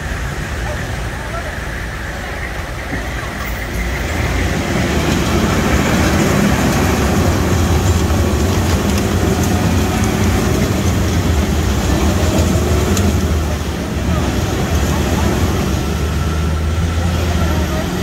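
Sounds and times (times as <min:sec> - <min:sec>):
rushing splashing water: 0:00.0 - 0:18.0
vehicle engines low rumble: 0:00.0 - 0:18.0.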